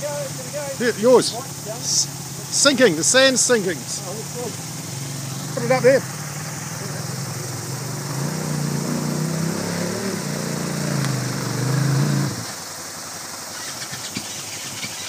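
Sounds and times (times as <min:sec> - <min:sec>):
dirt bike engine: 0:00.0 - 0:15.0
stream water rushing: 0:00.0 - 0:15.0.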